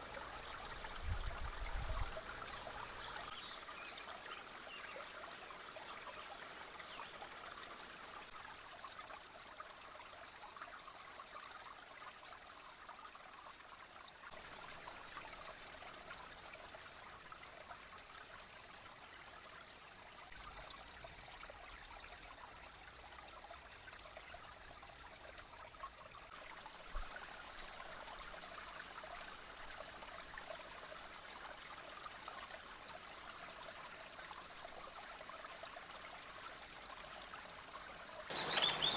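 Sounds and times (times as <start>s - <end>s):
creek water trickling: 0.0s - 38.9s.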